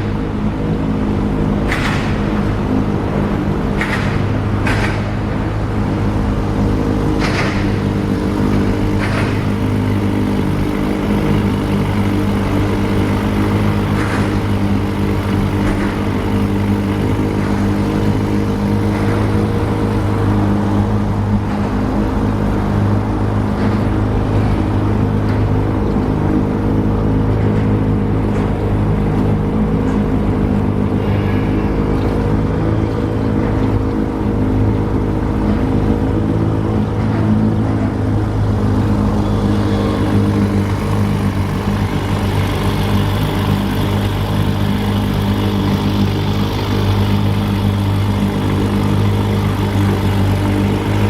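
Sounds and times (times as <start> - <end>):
engine running steadily: 0.0 - 51.0.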